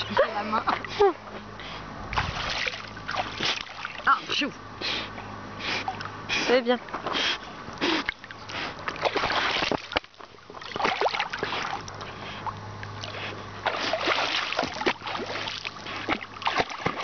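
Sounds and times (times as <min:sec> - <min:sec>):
water splashing and sloshing: 0:00.0 - 0:04.5, 0:05.7 - 0:17.0.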